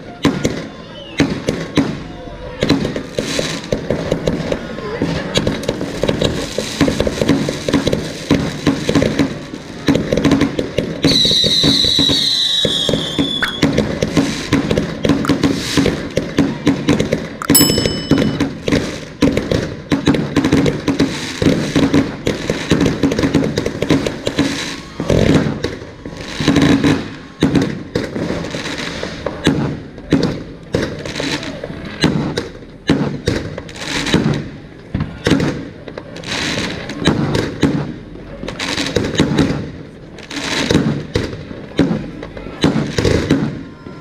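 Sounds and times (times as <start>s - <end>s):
fireworks banging: 0.2s - 43.7s.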